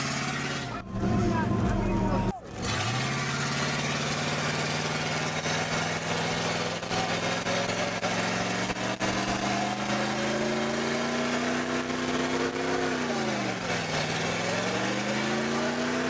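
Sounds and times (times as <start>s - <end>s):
pickup engine revving high: 0.0s - 16.0s.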